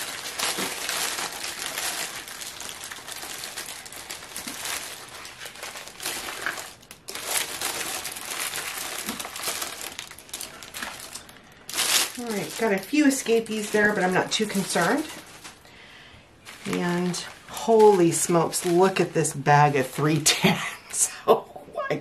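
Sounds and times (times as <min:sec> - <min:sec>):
plastic bags crinkling: 0:00.0 - 0:20.6.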